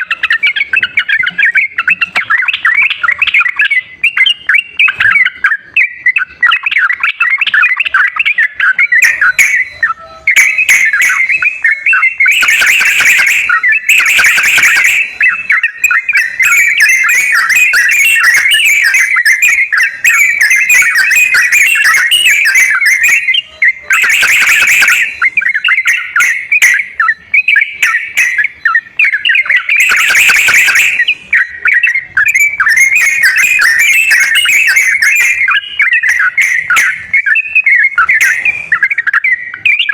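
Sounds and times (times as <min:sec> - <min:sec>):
birds chattering and warbling: 0:00.0 - 0:39.9.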